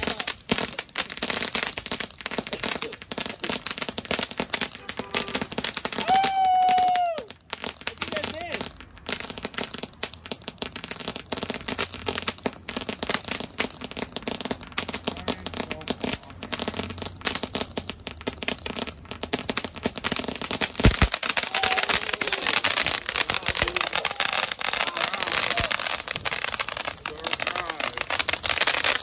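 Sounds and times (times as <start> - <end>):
firework fizzing and crackling: 0.0 - 29.0.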